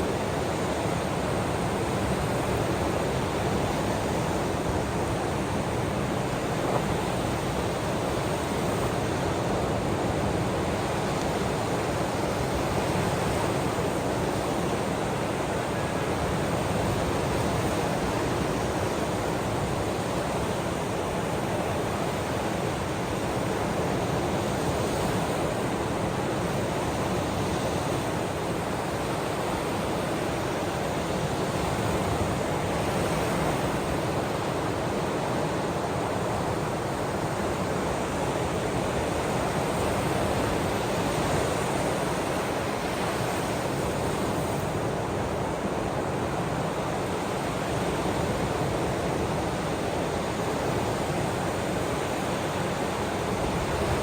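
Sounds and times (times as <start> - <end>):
ocean surf: 0.0 - 54.0.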